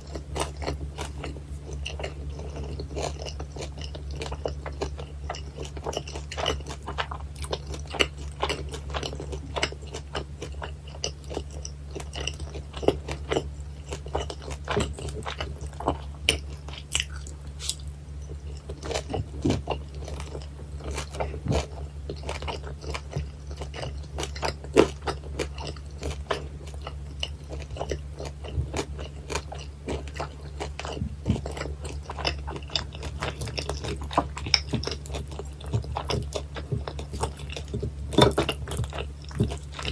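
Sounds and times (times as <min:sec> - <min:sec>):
chewing crunchy fried pork: 0:00.0 - 0:39.9.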